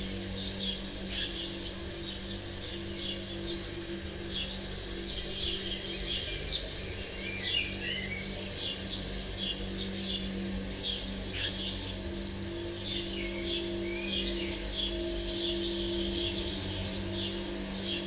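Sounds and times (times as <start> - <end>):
birds chirping and trilling: 0.0 - 18.0
low steady drone: 0.0 - 18.0.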